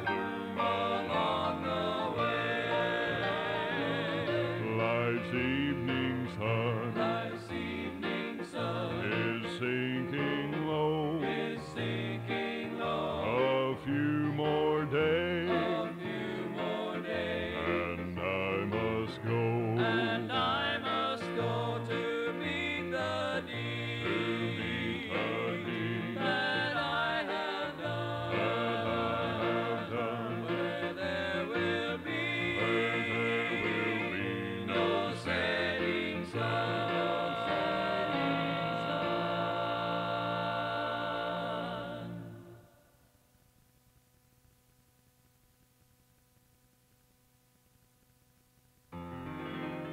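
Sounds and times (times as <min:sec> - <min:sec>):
acoustic string accompaniment: 0:00.0 - 0:42.5
vocal group singing a hymn: 0:00.0 - 0:42.9.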